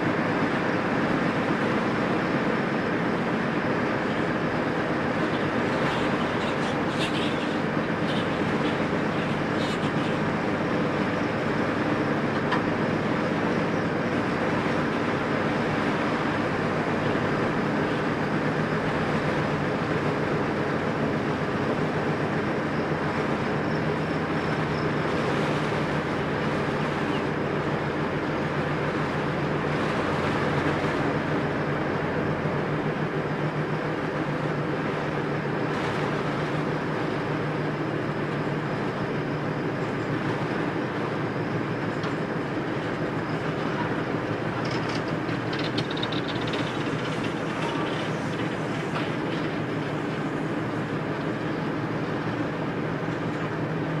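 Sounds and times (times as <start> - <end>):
freight train cars rolling: 0.0 - 54.0.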